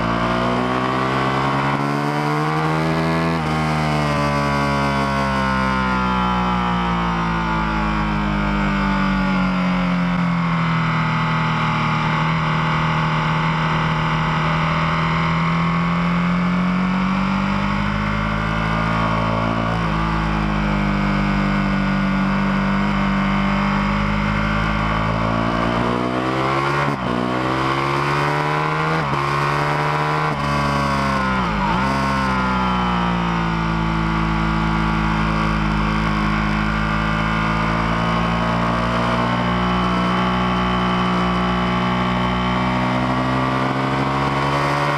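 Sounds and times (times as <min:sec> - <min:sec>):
motorcycle engine at high revs: 0:00.0 - 0:44.9.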